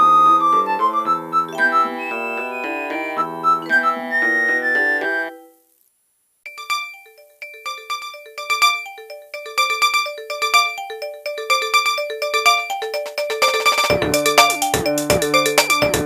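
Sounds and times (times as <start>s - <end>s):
electronic ringtone tune: 1.5s - 5.4s, 6.5s - 16.0s.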